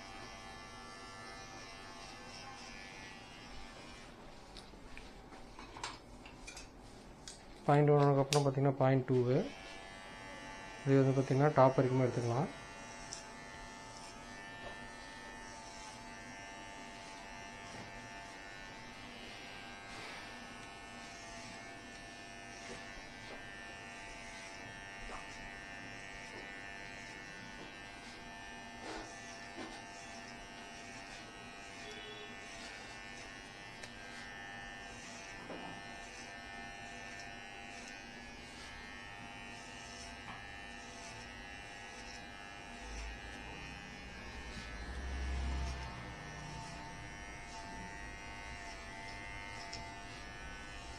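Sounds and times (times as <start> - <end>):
electric hair clipper buzzing: 0.0 - 4.2, 8.3 - 50.9.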